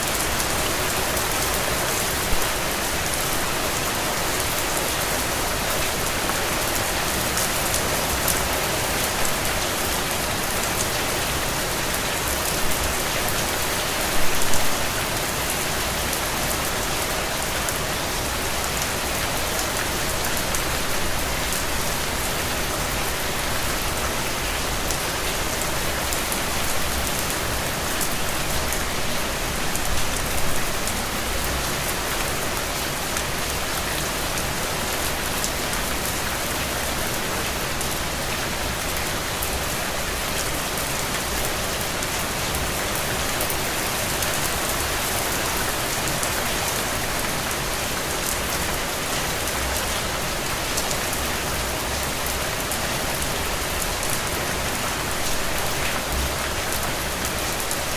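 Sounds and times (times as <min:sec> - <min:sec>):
rain pattering: 0:00.0 - 0:57.9.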